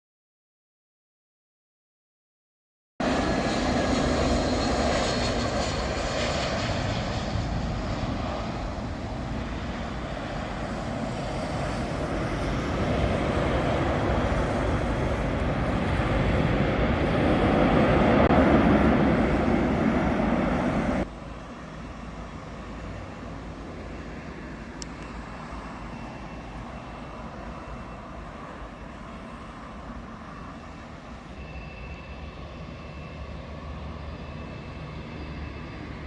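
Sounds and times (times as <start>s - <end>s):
jet engine roar: 3.0s - 36.0s.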